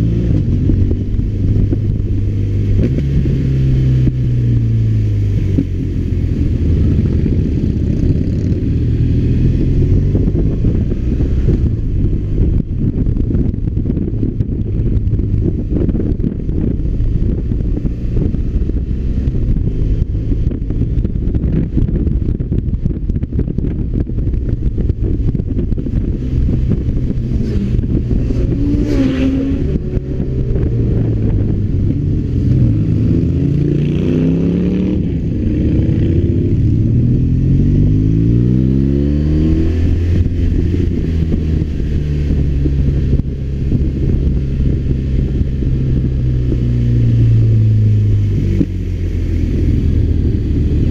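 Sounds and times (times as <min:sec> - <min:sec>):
motorcycle engine: 0:00.0 - 0:50.9
wind noise: 0:00.0 - 0:50.9.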